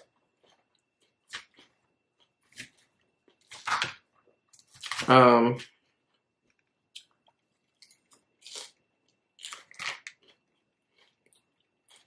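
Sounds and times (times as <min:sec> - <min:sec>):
person chewing crunchy food: 0:00.0 - 0:12.0.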